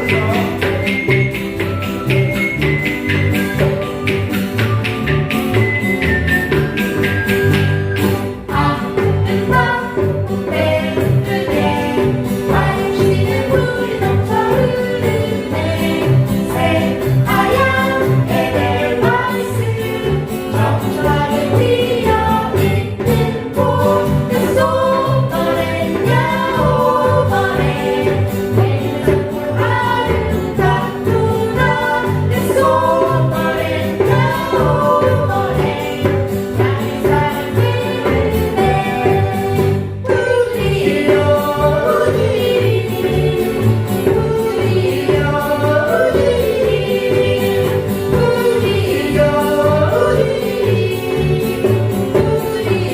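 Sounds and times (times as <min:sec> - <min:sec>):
group of voices singing: 0:00.0 - 0:52.9
rhythmic instrumental accompaniment: 0:00.0 - 0:52.9.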